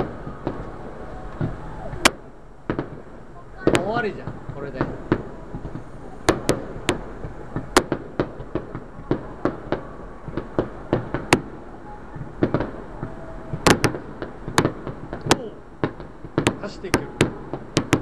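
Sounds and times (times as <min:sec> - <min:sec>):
firework shells bursting: 0:00.0 - 0:18.0.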